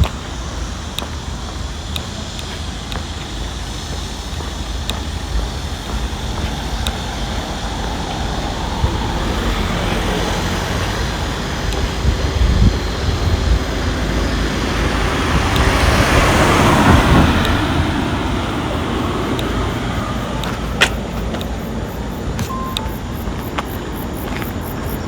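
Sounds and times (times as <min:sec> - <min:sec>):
wind rumble on microphone: 0:00.0 - 0:25.0
vehicle passing: 0:03.7 - 0:25.0.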